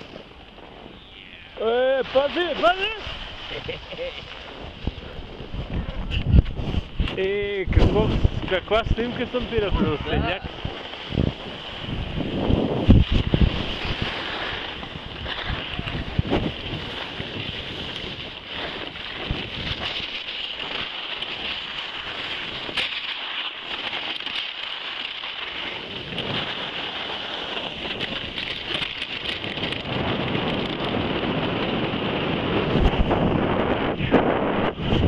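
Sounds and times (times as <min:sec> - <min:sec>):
wind on microphone: 0:00.0 - 0:24.4, 0:25.1 - 0:35.0
skis sliding on snow: 0:00.0 - 0:35.0.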